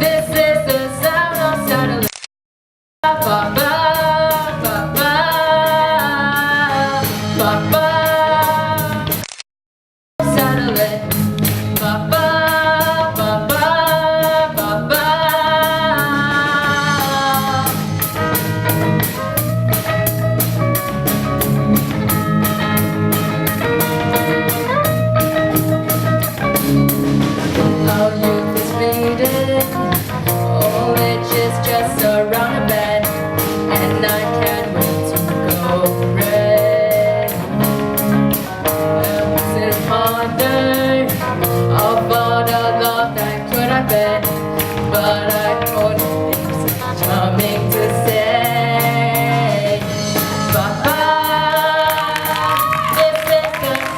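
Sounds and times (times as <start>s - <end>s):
band playing upbeat song: 0.0s - 2.2s, 3.0s - 9.4s, 10.2s - 53.9s
drums fast beat: 10.2s - 53.9s.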